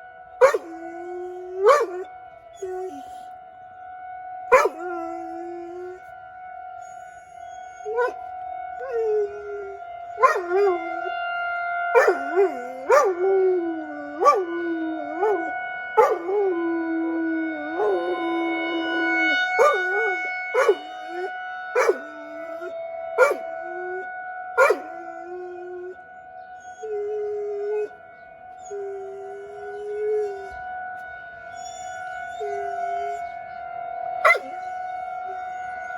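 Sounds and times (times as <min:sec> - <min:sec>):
warning siren wailing: 0:00.0 - 0:35.9
dog howling: 0:00.4 - 0:03.4, 0:04.5 - 0:06.1, 0:06.8 - 0:11.2, 0:11.9 - 0:26.0, 0:26.6 - 0:28.0, 0:28.6 - 0:30.7, 0:31.4 - 0:33.4, 0:34.1 - 0:35.9.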